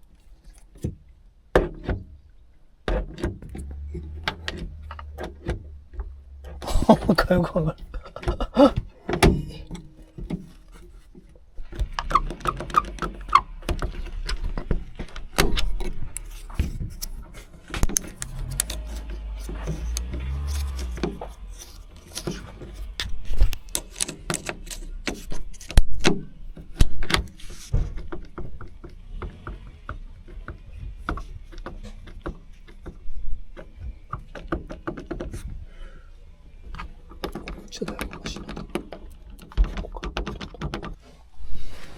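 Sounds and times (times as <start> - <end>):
metal latch clicks and knocks: 0.6 - 2.2, 2.8 - 6.6, 7.8 - 35.4, 36.7 - 41.0.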